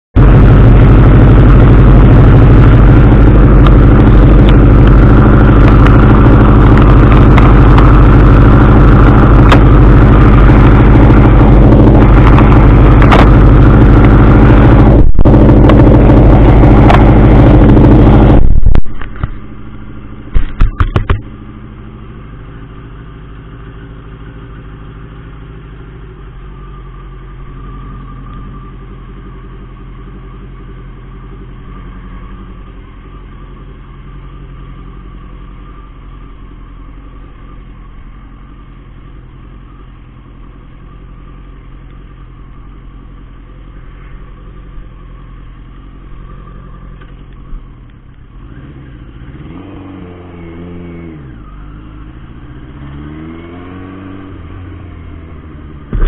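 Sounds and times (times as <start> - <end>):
motorcycle engine idling: 0.2 - 49.4.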